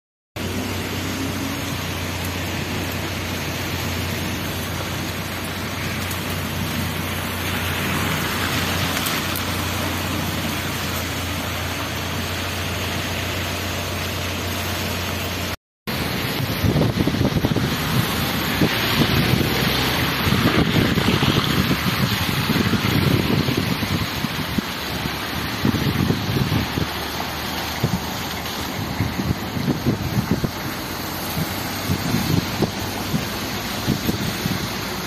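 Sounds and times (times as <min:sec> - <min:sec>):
steady rain falling: 0:00.4 - 0:35.0.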